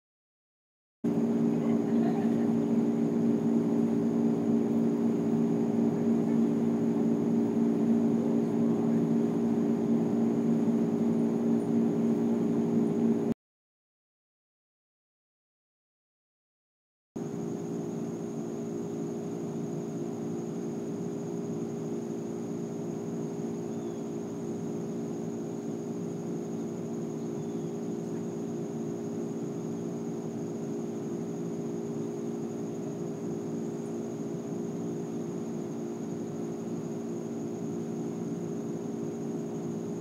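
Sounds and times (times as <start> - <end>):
mechanical hum: 1.0 - 13.4, 17.2 - 40.0
faint high whine: 1.1 - 13.4, 17.2 - 40.0.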